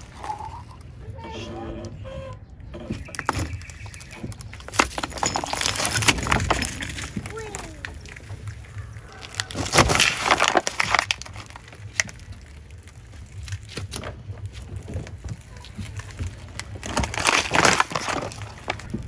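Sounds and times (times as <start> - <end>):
plastic bottles crushed by tyre: 0.0 - 1.0, 2.8 - 19.0
low steady rumble: 0.0 - 19.0.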